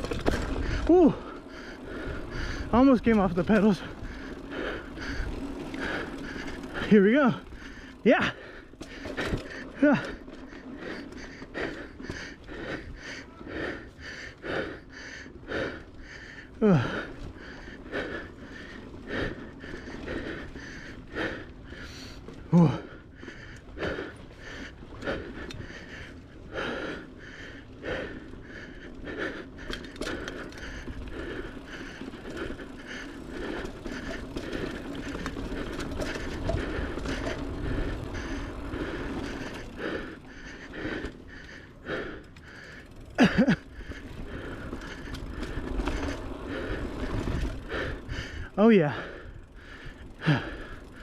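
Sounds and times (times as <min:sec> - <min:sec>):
bike rattling and knocking: 0:00.0 - 0:51.0
bike tyres rolling on dirt: 0:00.0 - 0:51.0
heavy breathing: 0:00.0 - 0:51.0.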